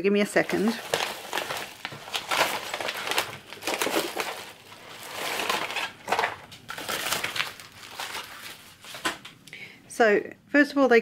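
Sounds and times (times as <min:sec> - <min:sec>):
padded envelope rustling and crinkling: 0:00.3 - 0:09.4.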